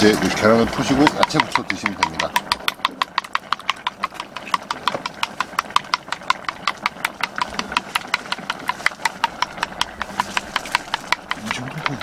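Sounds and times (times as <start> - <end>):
chopsticks beating egg in bowl: 0.0 - 12.0.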